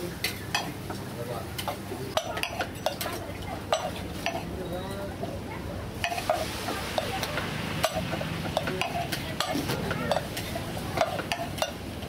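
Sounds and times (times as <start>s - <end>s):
faint voices: 0.0s - 12.0s.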